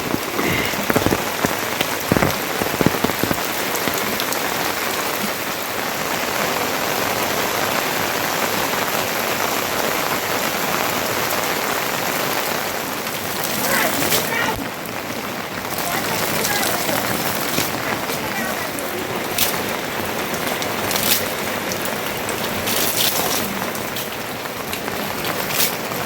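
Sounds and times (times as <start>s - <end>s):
heavy rain falling: 0.0s - 26.0s
sharp raindrop impacts: 0.0s - 26.0s.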